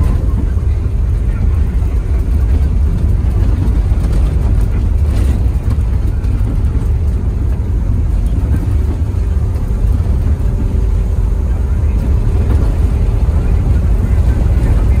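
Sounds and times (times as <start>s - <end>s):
vehicle engine and tyres rumbling: 0.0s - 15.0s.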